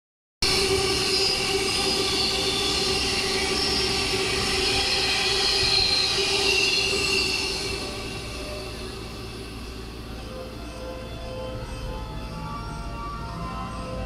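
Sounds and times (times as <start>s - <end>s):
freight train rumble: 0.4s - 14.0s
train wheels squealing: 0.4s - 14.0s.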